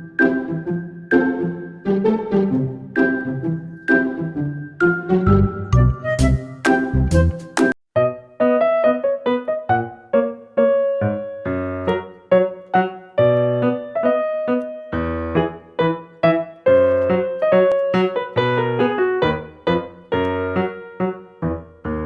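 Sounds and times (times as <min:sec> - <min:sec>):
piano-like keyboard tune: 0:00.0 - 0:22.0.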